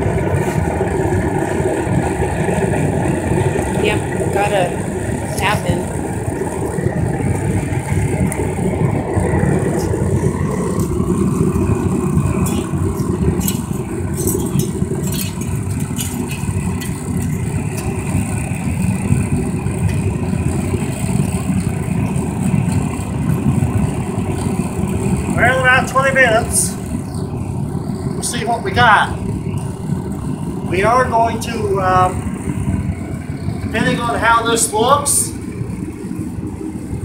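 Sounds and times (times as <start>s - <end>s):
furnace roaring with forced air: 0.0s - 37.0s
sharp crackles: 0.0s - 37.0s.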